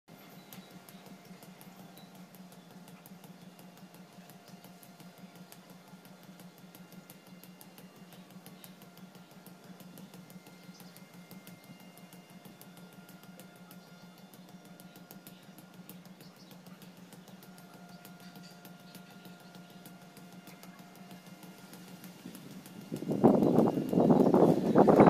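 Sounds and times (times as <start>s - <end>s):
steady low hum: 0.1s - 25.0s.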